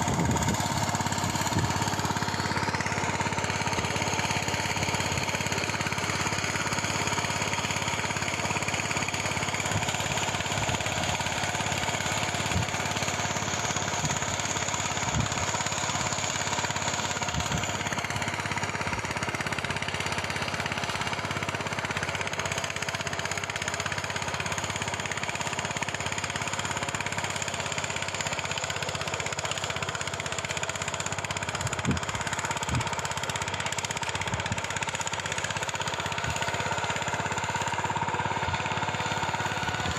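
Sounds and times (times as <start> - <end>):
machine engine running: 0.0 - 39.9.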